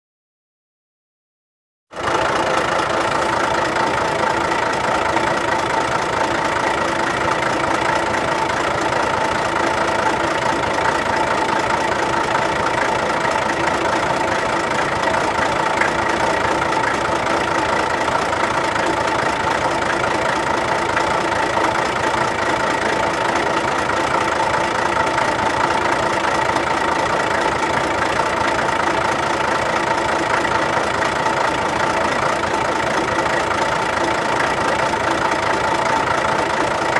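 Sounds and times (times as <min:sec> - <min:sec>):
diesel truck engine idling: 0:01.9 - 0:36.9.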